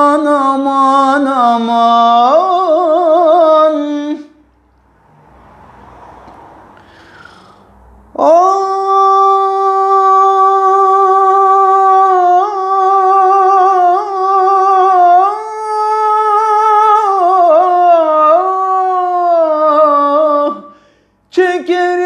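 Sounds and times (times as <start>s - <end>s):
man singing unaccompanied: 0.0s - 4.4s, 8.2s - 20.7s, 21.3s - 22.0s.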